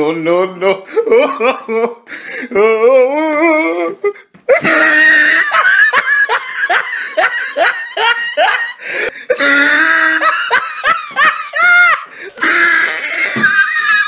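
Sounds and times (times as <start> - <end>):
person laughing: 0.6 - 14.0.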